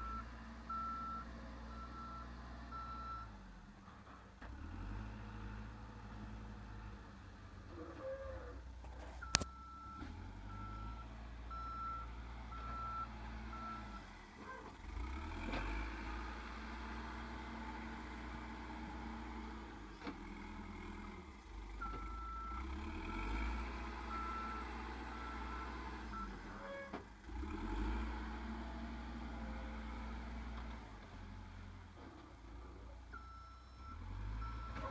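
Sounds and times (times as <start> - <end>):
backhoe engine running: 0.0 - 34.9.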